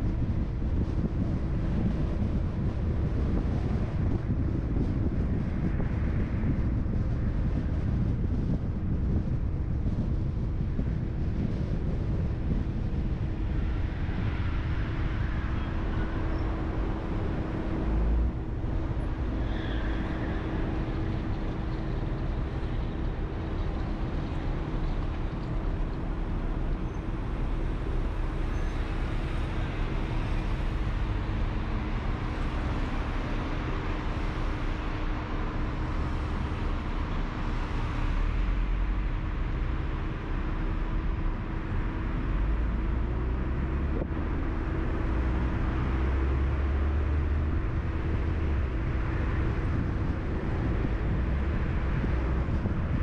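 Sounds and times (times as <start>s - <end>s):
car road and tyre noise: 0.0s - 53.0s
constant low hum: 0.0s - 53.0s.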